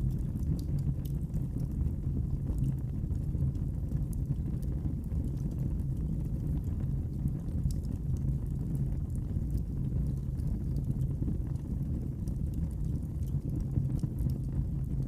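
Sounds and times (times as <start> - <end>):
fire crackling: 0.0 - 15.0
wood fire rumbling: 0.0 - 15.0.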